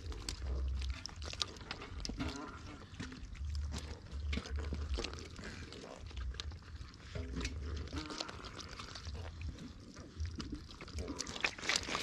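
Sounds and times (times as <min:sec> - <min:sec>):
catfish squelching in mud: 0:00.0 - 0:12.0.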